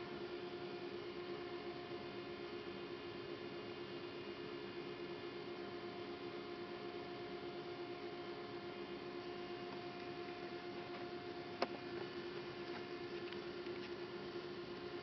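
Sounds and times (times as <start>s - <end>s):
lathe electrical hum: 0.0s - 15.0s.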